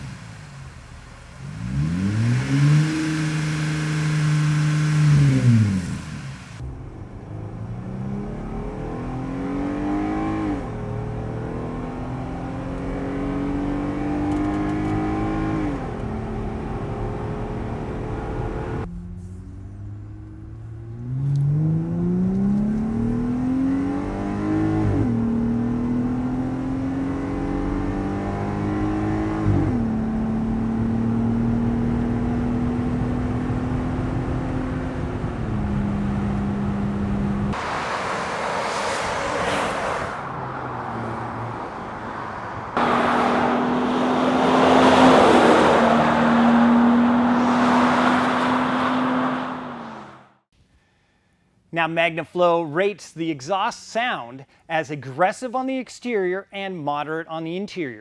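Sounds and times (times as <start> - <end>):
car exhaust accelerating: 0.0 - 50.4.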